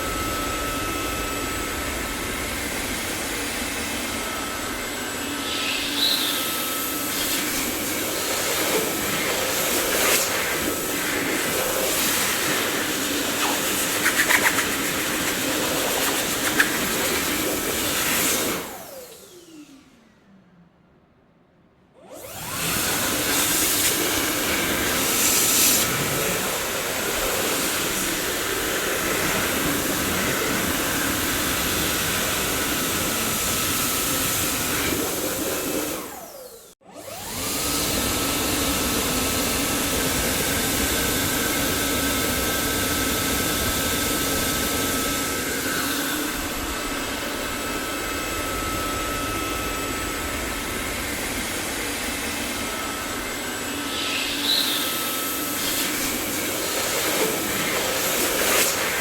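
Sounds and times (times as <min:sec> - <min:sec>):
vacuum cleaner motor whining: 0:00.0 - 0:20.2, 0:22.0 - 0:59.0.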